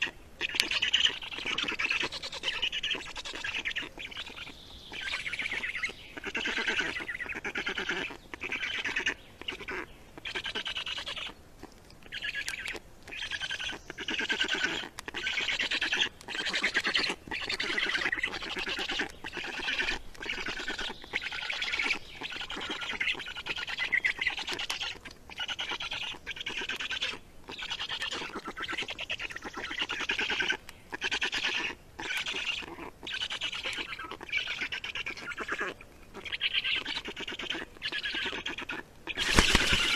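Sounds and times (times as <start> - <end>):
small bird rasping squawks: 0.0 - 11.4, 12.0 - 39.9.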